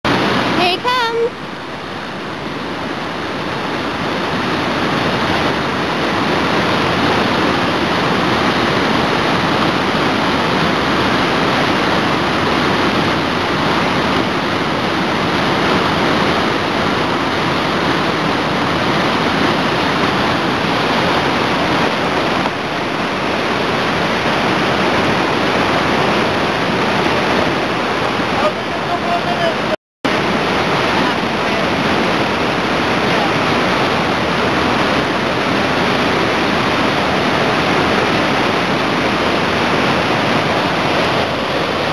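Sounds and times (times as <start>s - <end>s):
river rapids rushing over rocks: 0.1s - 41.9s.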